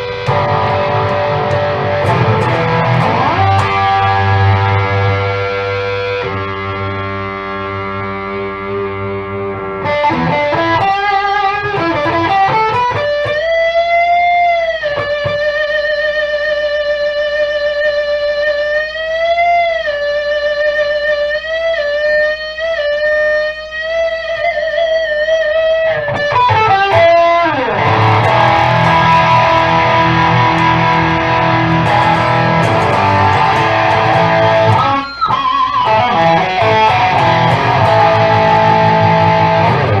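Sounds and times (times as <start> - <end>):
electric guitar note and chords: 0.0 - 40.0.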